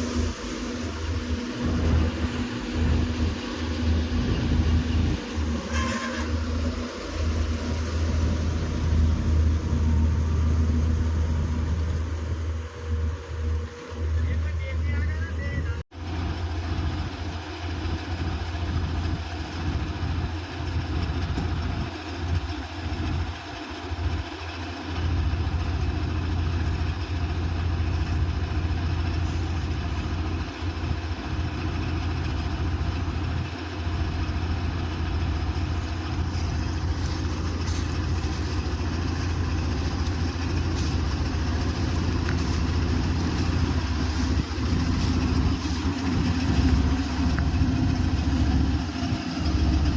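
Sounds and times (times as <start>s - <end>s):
diesel engine humming: 0.0s - 49.9s.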